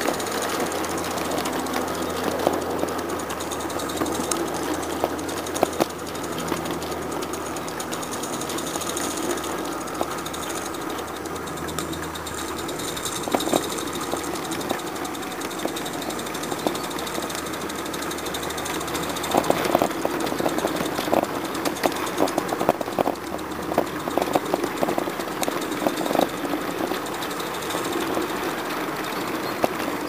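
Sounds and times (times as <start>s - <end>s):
sharp clicks: 0.0s - 30.0s
steam locomotive chuffing: 0.0s - 30.0s.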